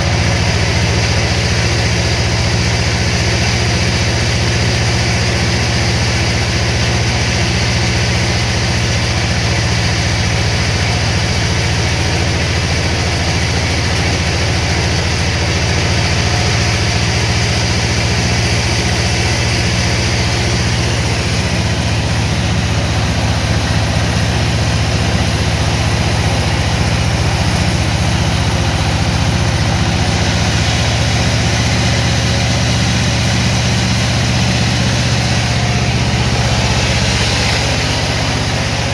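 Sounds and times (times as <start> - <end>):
sawmill machinery motor hum: 0.0 - 38.9.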